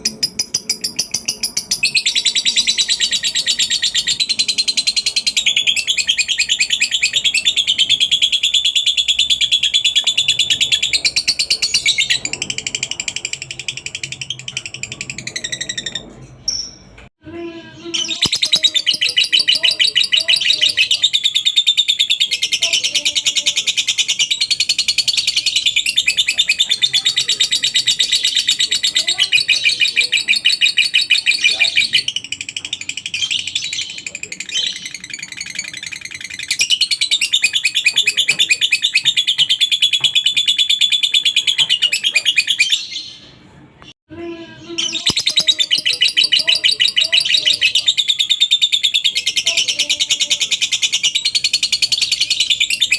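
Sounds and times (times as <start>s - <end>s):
lovebird chattering song: 0.0s - 16.9s, 17.8s - 43.3s, 44.6s - 52.9s.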